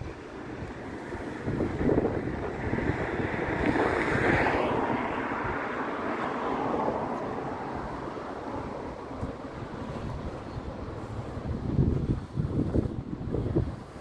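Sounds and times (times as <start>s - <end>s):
wind gusting across microphone: 0.0s - 14.0s.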